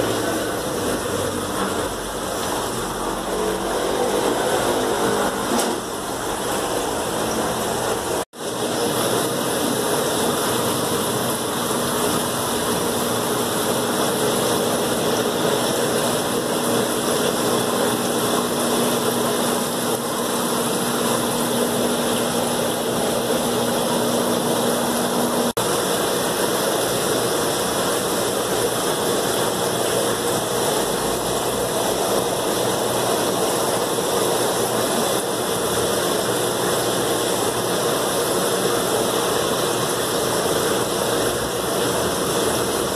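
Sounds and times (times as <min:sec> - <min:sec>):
aquarium water rushing: 0:00.0 - 0:42.9.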